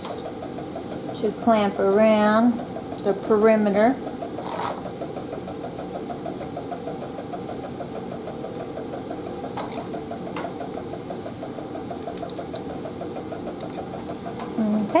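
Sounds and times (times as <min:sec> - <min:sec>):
machine hum with flutter: 0:00.0 - 0:15.0.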